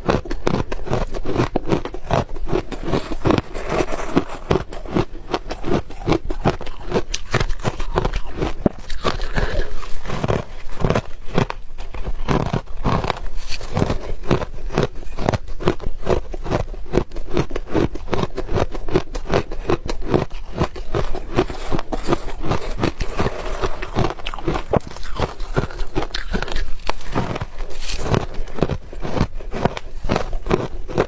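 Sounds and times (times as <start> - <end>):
ice being chewed: 0.0 - 31.0.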